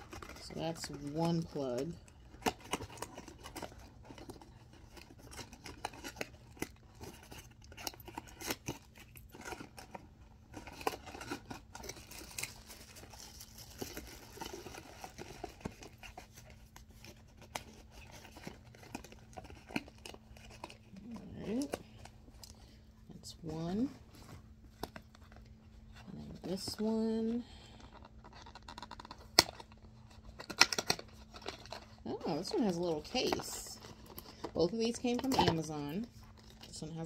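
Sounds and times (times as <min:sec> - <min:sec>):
plastic wrapping crinkling: 0:00.0 - 0:22.8, 0:23.7 - 0:36.8.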